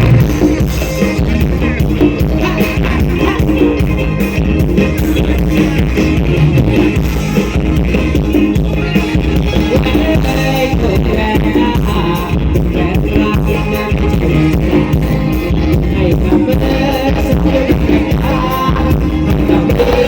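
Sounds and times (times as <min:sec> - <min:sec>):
dance music with percussion: 0:00.0 - 0:20.0.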